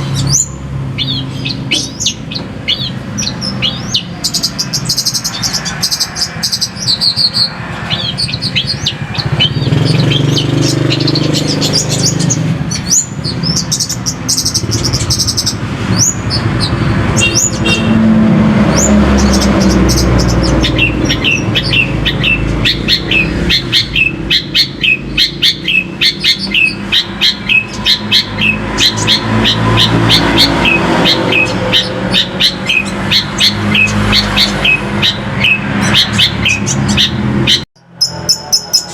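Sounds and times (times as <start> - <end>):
low traffic rumble: 0.0 - 38.9
songbird singing: 0.0 - 38.9.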